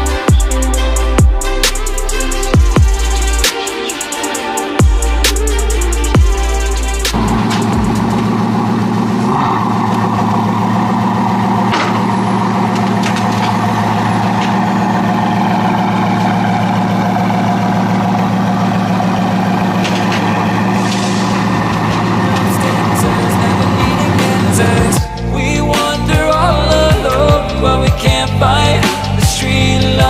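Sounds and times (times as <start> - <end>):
large vehicle engine idling: 0.0 - 3.5, 4.8 - 30.0.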